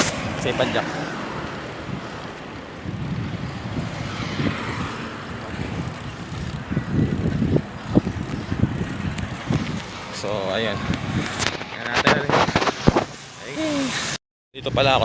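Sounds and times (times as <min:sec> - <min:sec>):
wind buffeting microphone: 0:00.0 - 0:13.2
road traffic noise: 0:00.0 - 0:15.0.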